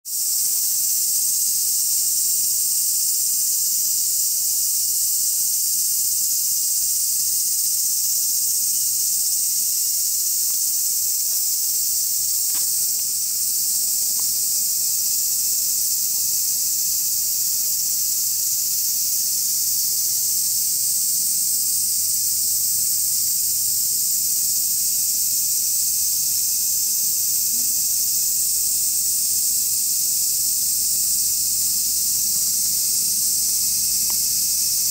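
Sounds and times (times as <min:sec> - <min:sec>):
insects chirring: 0:00.1 - 0:34.9.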